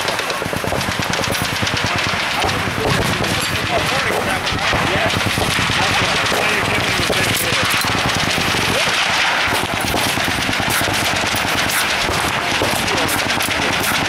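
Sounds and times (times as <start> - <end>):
automatic machine gun fire: 0.0 - 14.0.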